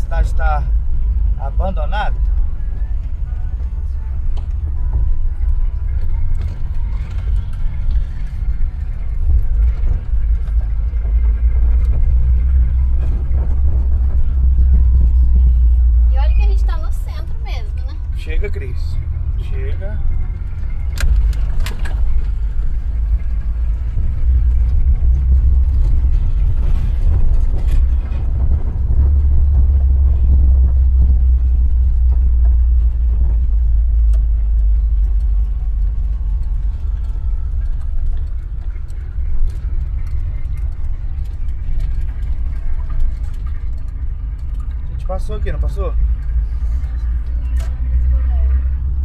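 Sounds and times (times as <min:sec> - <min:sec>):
van engine and road rumble: 0:00.0 - 0:49.0.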